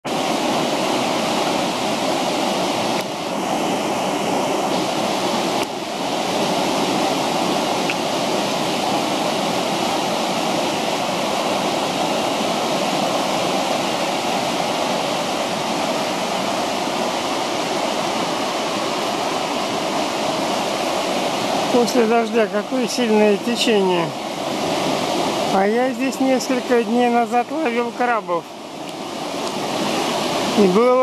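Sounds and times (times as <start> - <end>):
river rushing over rapids: 0.0 - 31.0.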